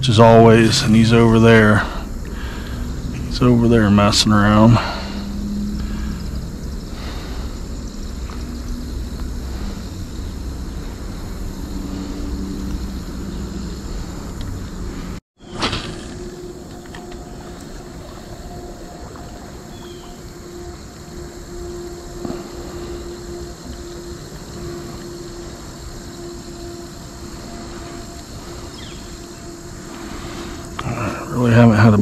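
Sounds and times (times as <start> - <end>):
distant engine drone: 0.0 - 32.0
wind or water noise: 0.0 - 32.0.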